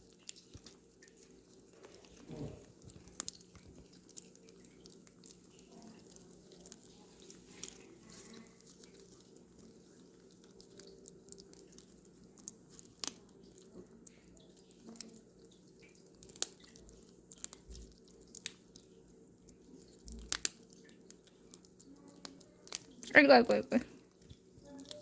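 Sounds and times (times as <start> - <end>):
cats licking wet smacks: 0.0 - 23.2, 23.8 - 25.0.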